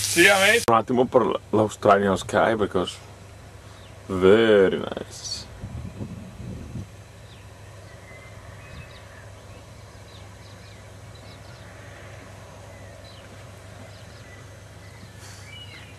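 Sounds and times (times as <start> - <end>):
faint outdoor background noise: 0.0 - 15.9
steady low hum: 0.6 - 15.9
birds chirping: 2.0 - 15.9.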